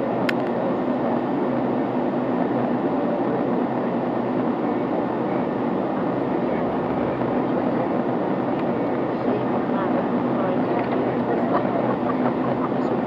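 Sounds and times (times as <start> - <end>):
airliner engines roaring: 0.0 - 13.0.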